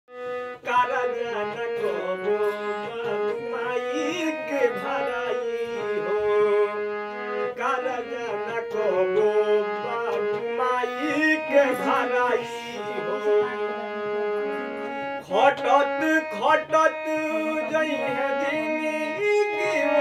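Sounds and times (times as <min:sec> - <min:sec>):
harmonium playing: 0:00.1 - 0:20.0
man singing: 0:00.5 - 0:20.0.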